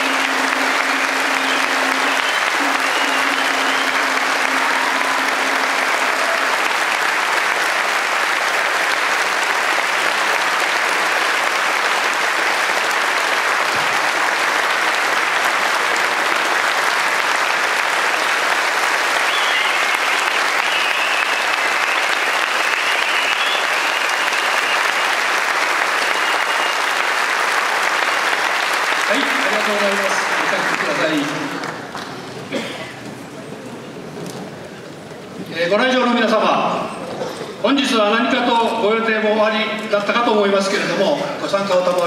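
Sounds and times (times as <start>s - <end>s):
large audience applauding: 0.0s - 35.7s.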